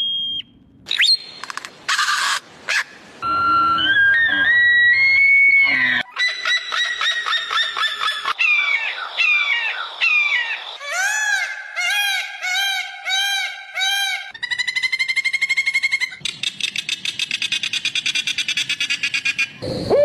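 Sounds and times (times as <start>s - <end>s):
bird-like animal calls: 1.9s - 20.0s.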